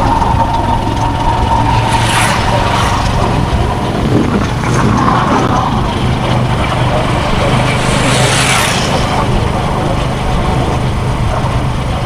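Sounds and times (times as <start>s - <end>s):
engine rumble: 0.0s - 12.0s
tyre and wind noise: 0.0s - 12.0s.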